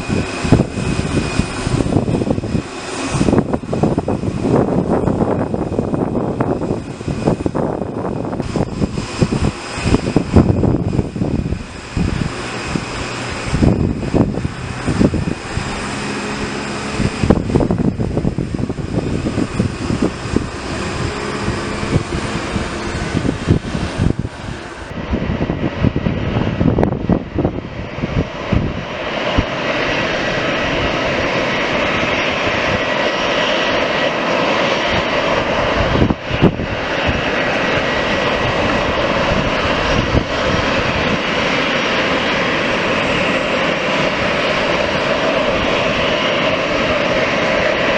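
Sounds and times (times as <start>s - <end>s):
airplane engines running: 0.0s - 47.9s.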